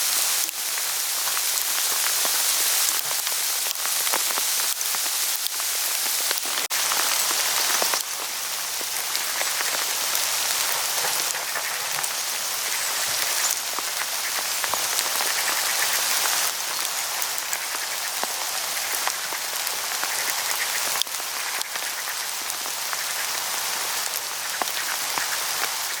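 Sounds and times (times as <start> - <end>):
hail falling on leaves: 0.0 - 26.0.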